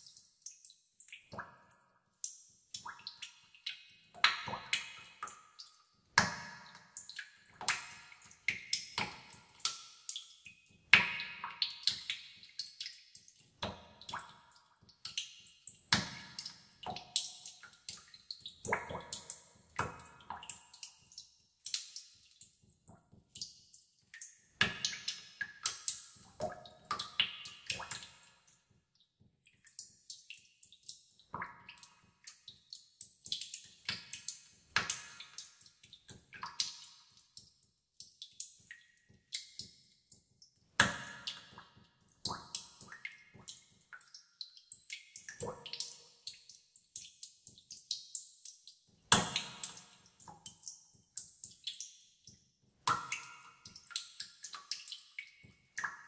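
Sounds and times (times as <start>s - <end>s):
water dripping in cave: 0.0s - 56.0s.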